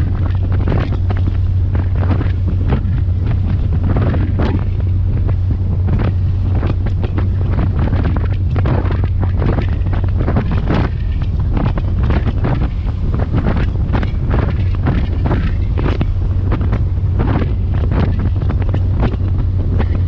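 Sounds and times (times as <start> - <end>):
boat engine drone: 0.0 - 20.0
wind buffeting microphone: 0.0 - 20.0.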